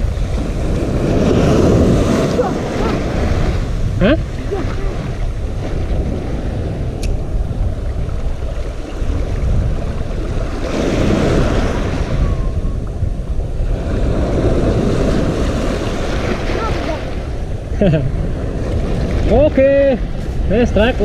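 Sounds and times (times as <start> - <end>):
sea waves washing in: 0.0 - 21.0
wind buffeting microphone: 0.0 - 21.0.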